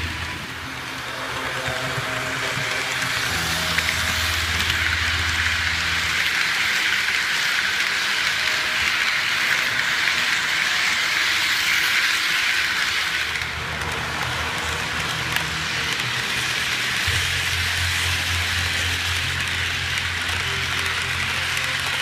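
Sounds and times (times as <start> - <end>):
model train wheels hissing on rails: 0.0 - 22.0.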